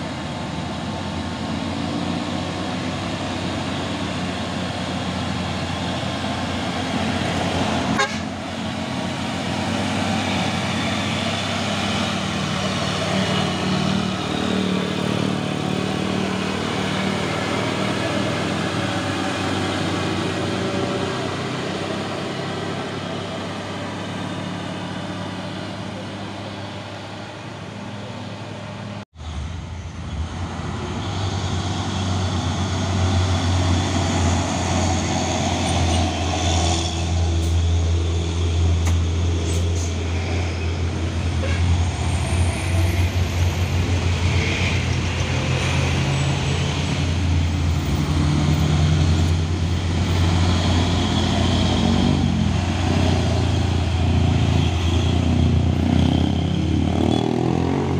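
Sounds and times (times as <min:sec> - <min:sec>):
diesel truck engines running: 0:00.0 - 0:57.9
road traffic noise: 0:00.0 - 0:57.9.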